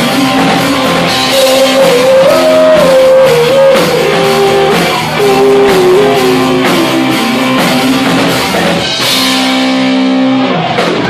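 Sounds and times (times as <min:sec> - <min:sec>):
drum kit: 0:00.0 - 0:11.0
electric guitar: 0:00.0 - 0:11.0.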